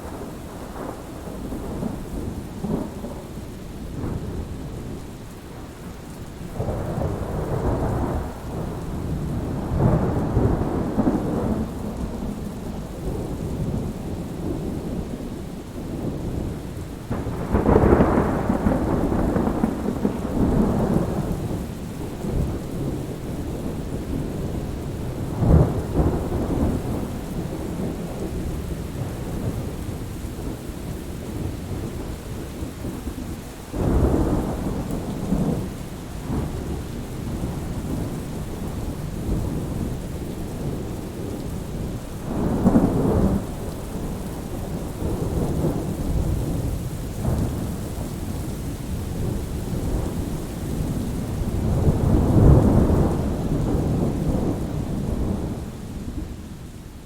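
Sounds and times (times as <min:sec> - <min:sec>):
steady rain: 0:00.0 - 0:57.0
rolling thunder: 0:06.4 - 0:56.7.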